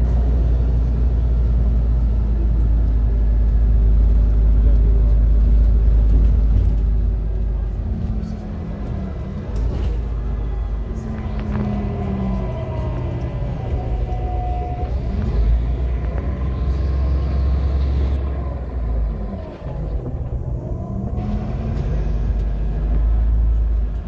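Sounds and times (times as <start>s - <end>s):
bus diesel engine: 0.0s - 24.0s
road rumble: 0.0s - 24.0s.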